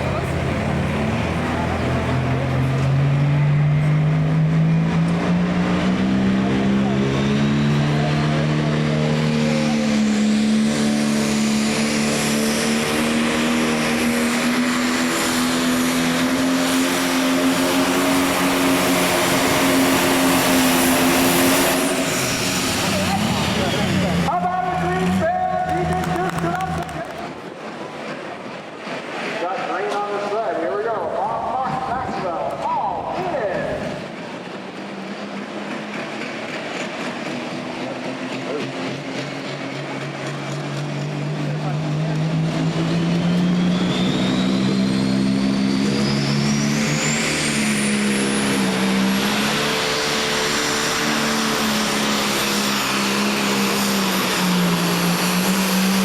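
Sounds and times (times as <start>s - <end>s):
diesel engine roaring at high revs: 0.0s - 56.0s.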